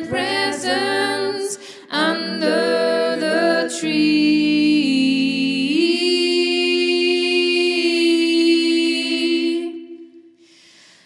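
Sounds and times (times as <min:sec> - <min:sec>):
voices singing a cappella: 0:00.0 - 0:10.4.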